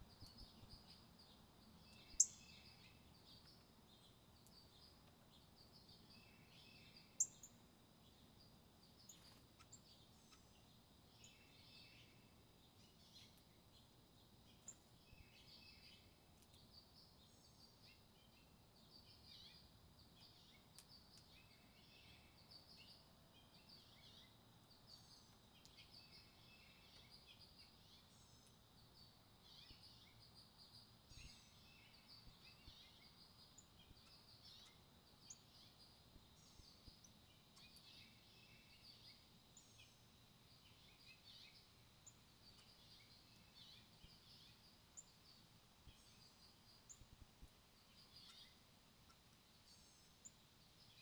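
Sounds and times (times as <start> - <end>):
faint songbirds chirping: 0.0 - 51.0.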